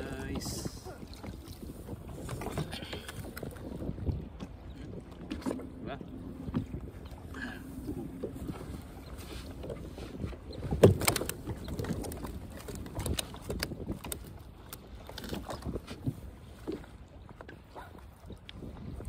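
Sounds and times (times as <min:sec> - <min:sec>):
knocks and clatter on a boat: 0:00.0 - 0:19.0.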